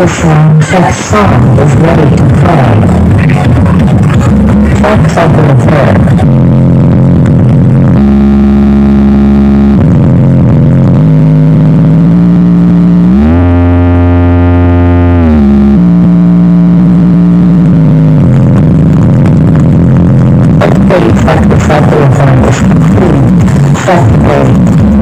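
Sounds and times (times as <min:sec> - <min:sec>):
buzzy tone gliding in pitch: 0:00.0 - 0:25.0.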